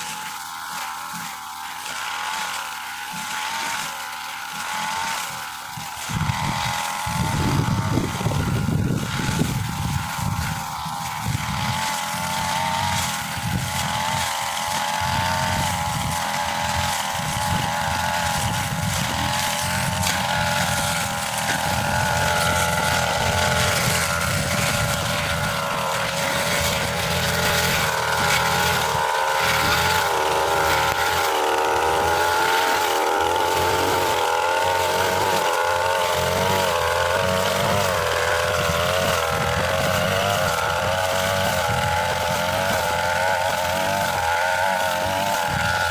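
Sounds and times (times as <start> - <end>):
brush cutter engine running: 0.0 - 45.9.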